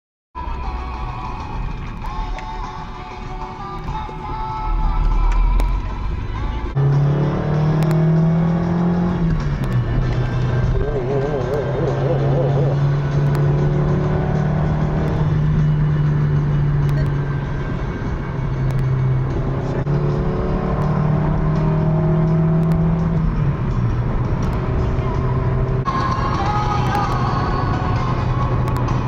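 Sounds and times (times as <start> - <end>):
car engine accelerating: 0.4 - 29.0
road noise: 0.4 - 29.0.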